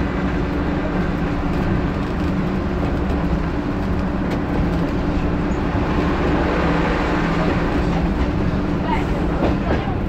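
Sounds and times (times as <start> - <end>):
diesel engine drone: 0.0 - 10.0
wheels rumbling on rails: 0.0 - 10.0.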